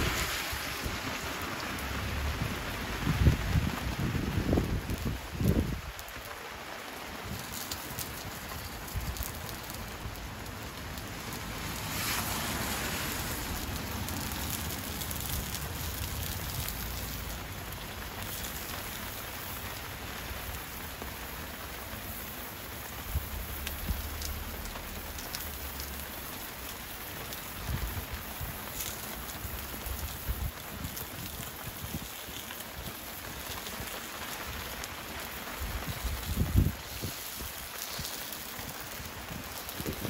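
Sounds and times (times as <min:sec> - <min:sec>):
steady rain hiss: 0:00.0 - 0:40.0
wood fire crackling: 0:00.0 - 0:40.0.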